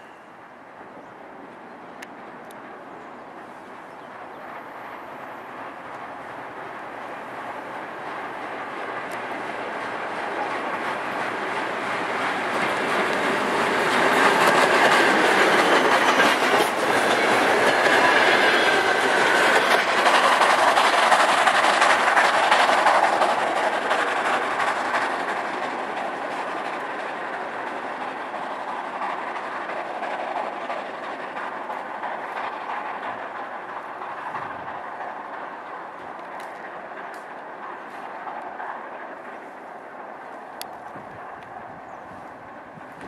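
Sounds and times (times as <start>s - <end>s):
steam train passing: 0.0s - 43.0s.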